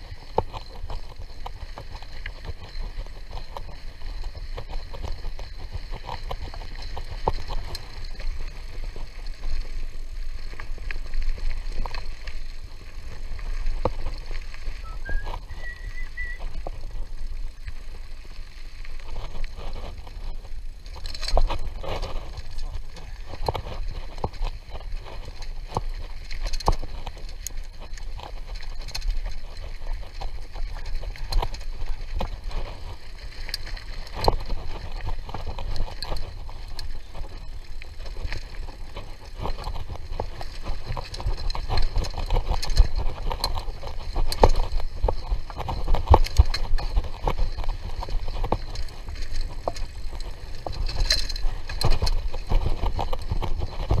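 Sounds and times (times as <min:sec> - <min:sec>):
bike frame rattling and knocking: 0:00.0 - 0:15.3, 0:19.0 - 0:54.0.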